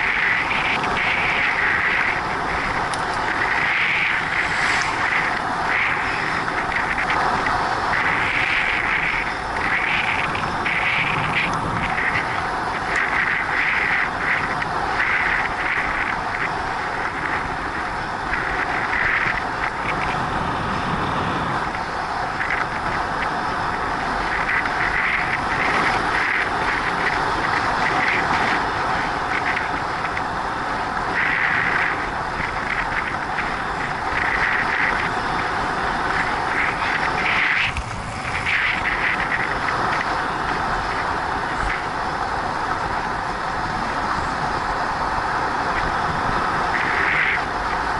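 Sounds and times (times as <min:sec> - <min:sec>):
bicycle tyres rolling on asphalt: 0:00.0 - 0:47.9
wind rushing over microphone: 0:00.0 - 0:47.9.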